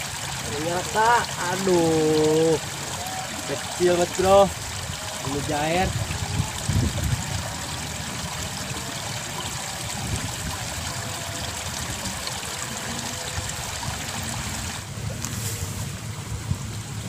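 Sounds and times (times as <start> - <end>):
water trickling in a ditch: 0.0 - 17.0
low uneven rumble: 1.8 - 17.0.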